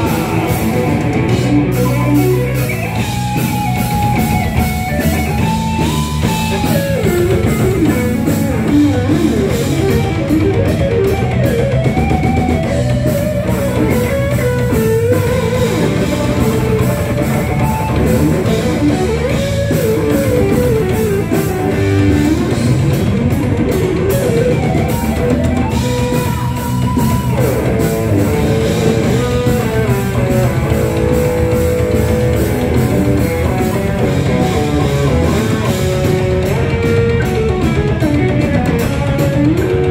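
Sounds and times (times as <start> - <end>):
bass guitar: 0.0 - 39.9
distorted electric guitars: 0.0 - 39.9
drum kit with fast cymbals: 0.0 - 39.9
lead guitar bending notes: 0.0 - 39.9.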